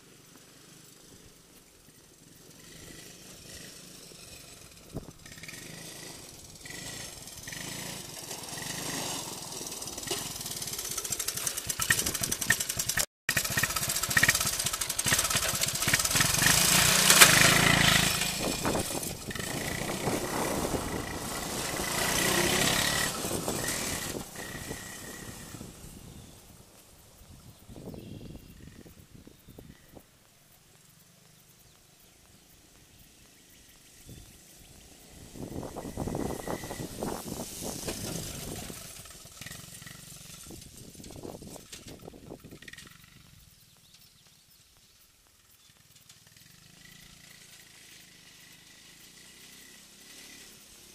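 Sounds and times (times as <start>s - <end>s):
motorbike engine passing: 0.0s - 50.9s.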